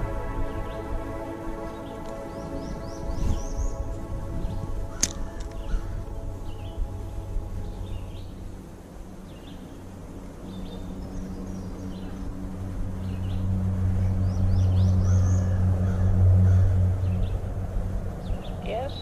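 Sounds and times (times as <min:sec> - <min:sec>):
low drone: 0:00.0 - 0:19.0
songbirds chirping: 0:00.0 - 0:19.0.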